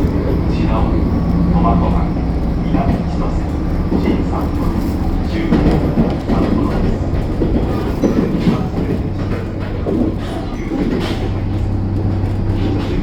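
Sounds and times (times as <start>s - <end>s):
train engine hum: 0.0s - 13.0s
train wheels rumbling on track: 0.0s - 13.0s
wheels knocking over rails: 0.0s - 13.0s.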